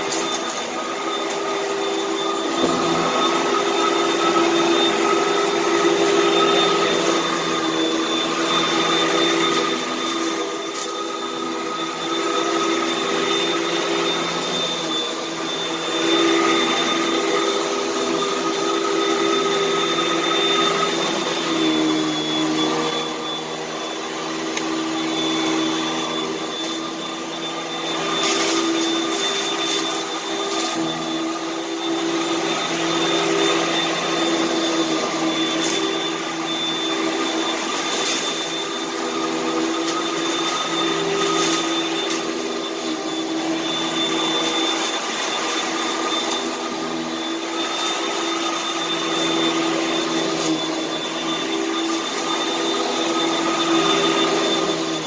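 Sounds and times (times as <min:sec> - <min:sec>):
vacuum cleaner motor whining: 0:00.0 - 0:55.0.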